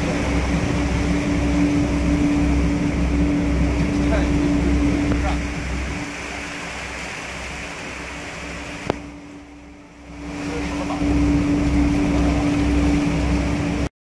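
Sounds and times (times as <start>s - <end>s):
boat engine drone: 0.0s - 13.9s
rushing water: 0.0s - 13.9s
wind: 0.0s - 13.9s.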